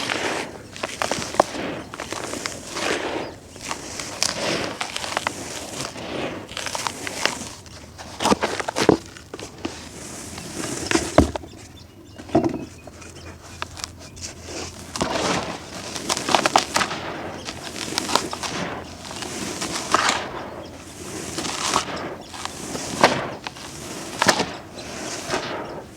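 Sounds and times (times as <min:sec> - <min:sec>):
brittle material crunching: 0:00.0 - 0:09.6, 0:13.4 - 0:25.5.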